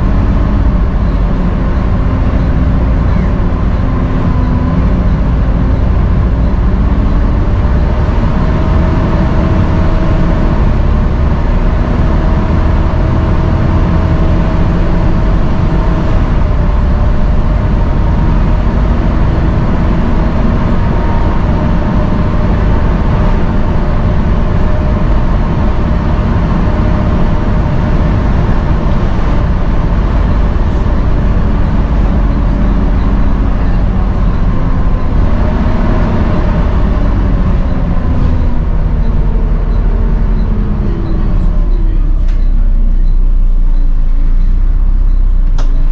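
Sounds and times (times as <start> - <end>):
bus engine drone: 0.0 - 45.9
road rumble: 0.0 - 45.9.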